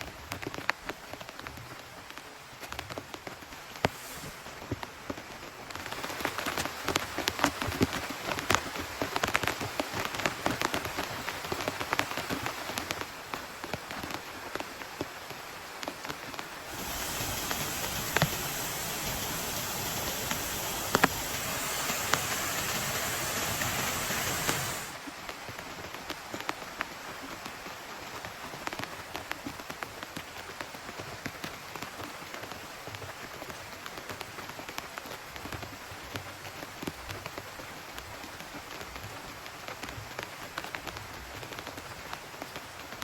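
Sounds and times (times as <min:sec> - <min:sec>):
heavy raindrops pattering: 0:00.0 - 0:43.0
steady rain hiss: 0:00.0 - 0:43.0.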